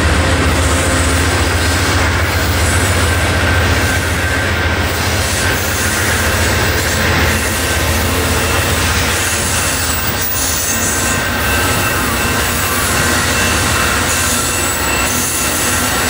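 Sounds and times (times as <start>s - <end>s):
high wheel squeal: 0.0s - 16.0s
steel wheels rumbling on rail: 0.0s - 16.0s.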